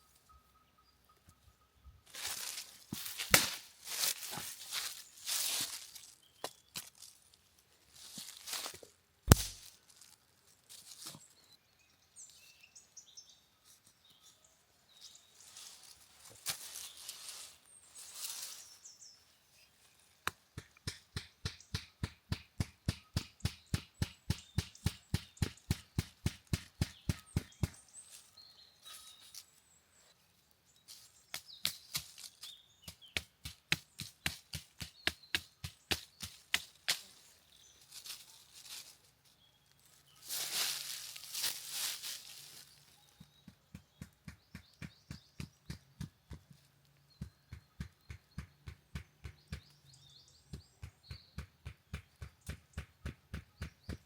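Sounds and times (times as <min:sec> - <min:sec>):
birds chirping faintly: 0:00.0 - 0:54.0.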